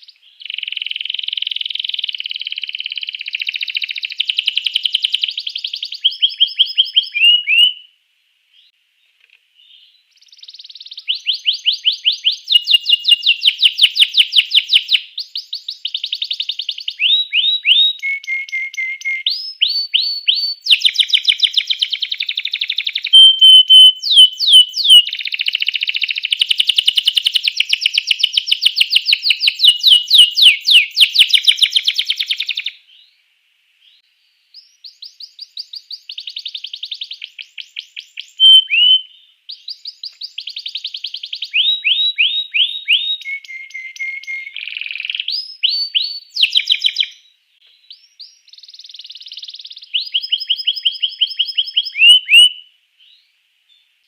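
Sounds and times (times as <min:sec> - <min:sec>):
canary singing trills: 0:00.0 - 0:07.9, 0:09.6 - 0:33.2, 0:33.8 - 0:53.3.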